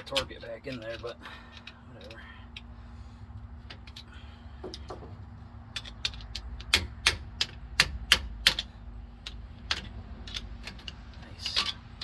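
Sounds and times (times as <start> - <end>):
metal tools clicking and tapping: 0.0 - 2.7, 3.6 - 12.0
steady low hum: 0.0 - 12.0.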